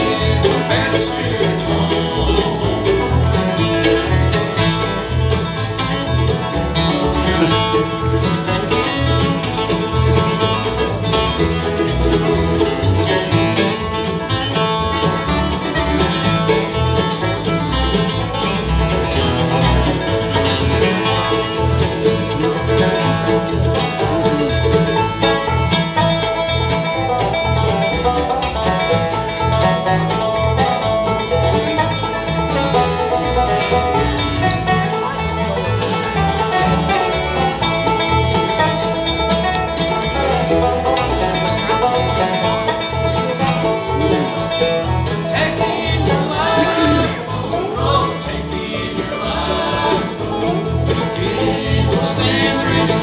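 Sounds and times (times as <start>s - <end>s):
acoustic guitar: 0.0s - 53.0s
banjo: 0.0s - 53.0s
fiddle: 0.0s - 53.0s
mandolin: 0.0s - 53.0s
upright bass: 0.0s - 53.0s.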